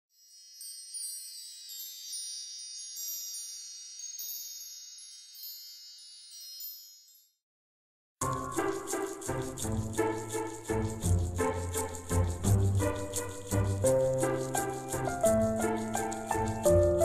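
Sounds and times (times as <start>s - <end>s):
high tinkling chimes: 0.0s - 7.4s, 8.2s - 17.0s
music: 0.1s - 6.8s, 8.2s - 17.0s.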